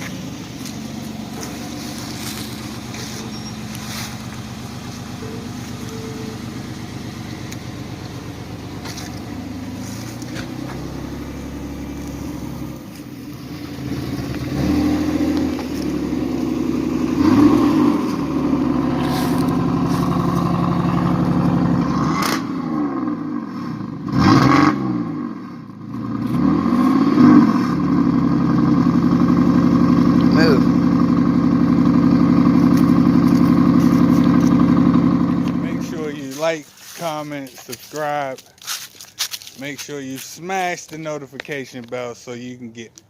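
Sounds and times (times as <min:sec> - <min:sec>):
car engine revving: 0:00.0 - 0:36.4.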